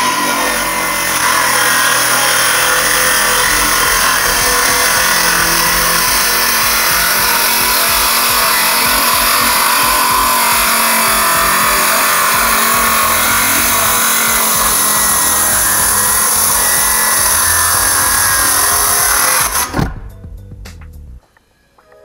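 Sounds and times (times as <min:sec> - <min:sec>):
saw blade winding down: 0:00.0 - 0:19.8
circular saw cutting plywood: 0:00.0 - 0:19.9.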